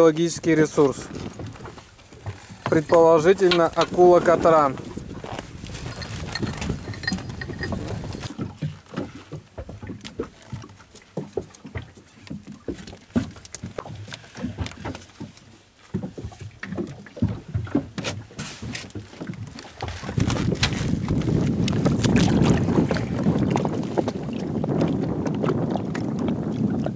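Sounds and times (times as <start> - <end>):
net and fish knocking on hull: 0.8 - 26.9.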